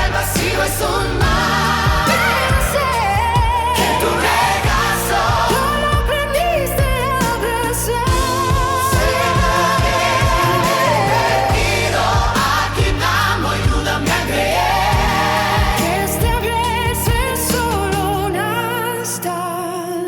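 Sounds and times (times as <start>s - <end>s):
steady drum beat: 0.0s - 18.3s
bass: 0.0s - 20.0s
person singing with vibrato: 0.0s - 20.0s.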